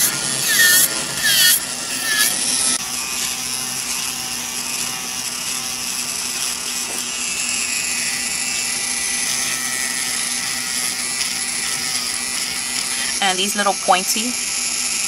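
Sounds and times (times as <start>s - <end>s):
electric nail drill whirring: 0.0s - 15.0s.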